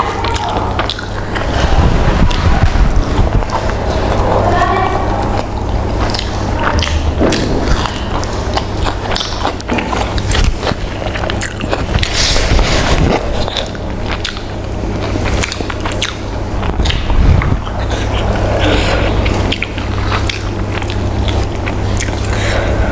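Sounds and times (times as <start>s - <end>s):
chewing and crunching fried chicken: 0.0s - 22.9s
low hum: 0.0s - 22.9s.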